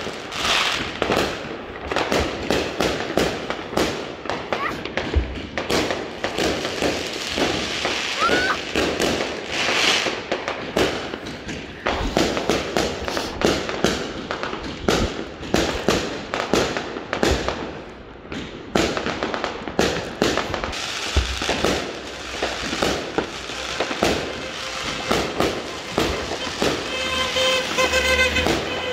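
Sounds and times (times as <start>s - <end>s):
fireworks bangs and crackles: 0.0s - 28.9s.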